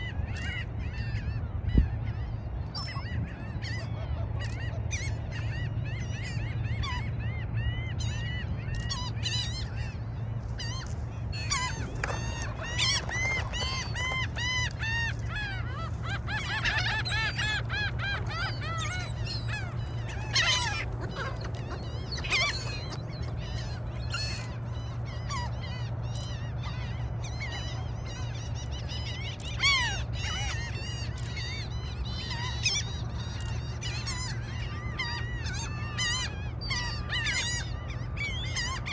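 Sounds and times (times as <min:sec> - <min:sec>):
steady low hum: 0:00.0 - 0:35.4
seagulls calling: 0:00.0 - 0:38.9.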